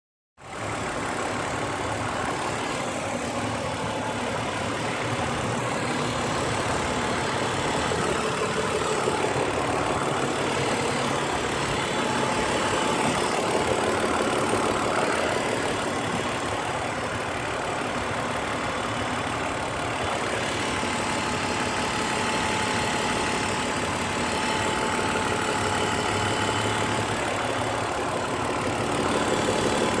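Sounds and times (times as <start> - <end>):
car engine idling: 0.4 - 30.0.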